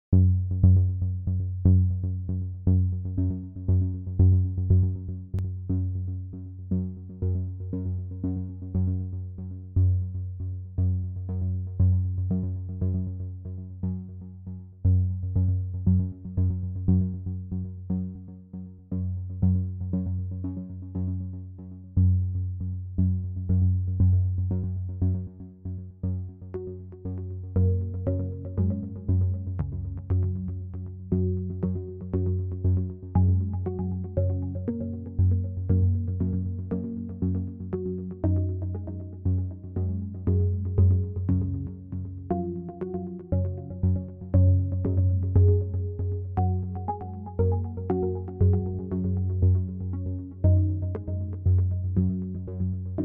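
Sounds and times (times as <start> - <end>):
electronic music with synthesizer: 0.2 - 53.0.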